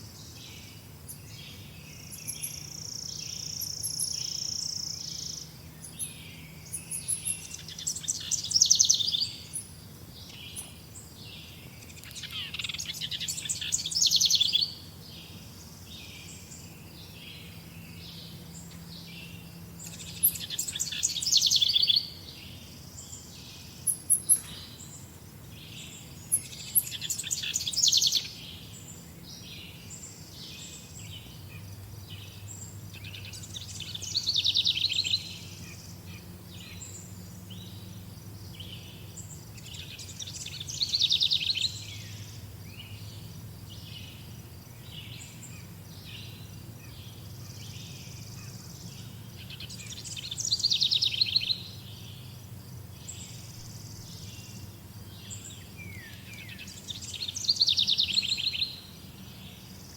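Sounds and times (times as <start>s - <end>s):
birds chirping softly: 0.0s - 59.9s
bird trilled song: 0.2s - 59.9s.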